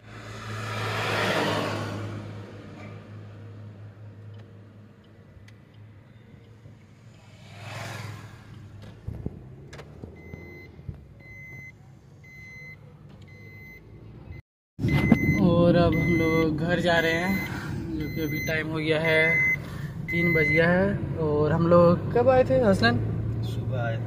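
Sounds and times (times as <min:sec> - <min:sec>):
car engine drone and road noise: 0:00.0 - 0:24.0
passing vehicle: 0:00.0 - 0:24.0.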